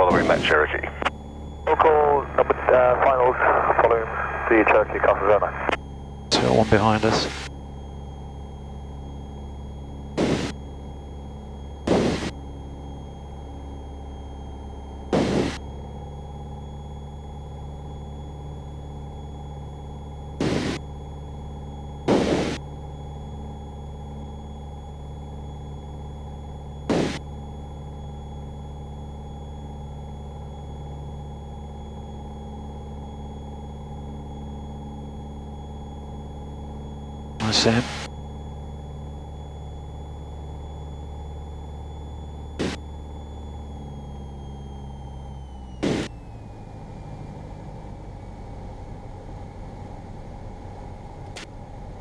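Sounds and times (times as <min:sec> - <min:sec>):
thin high whine: 0:00.0 - 0:46.9
airplane engine droning: 0:00.0 - 0:52.0.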